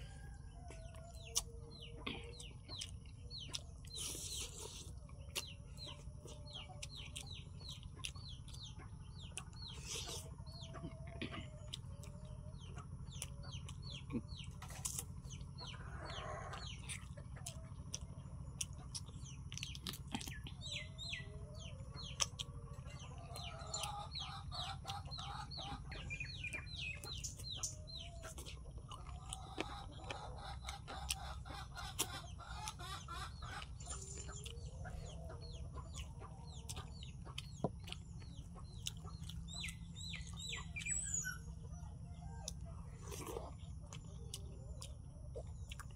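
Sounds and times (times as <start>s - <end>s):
man chewing wetly: 0.0s - 41.3s, 42.3s - 45.9s
low wavering bird calls: 0.0s - 45.9s.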